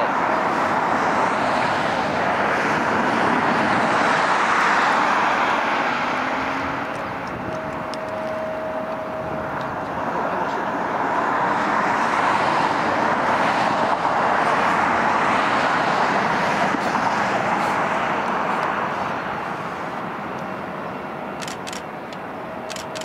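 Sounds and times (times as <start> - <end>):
jet airliner noise: 0.0 - 23.0.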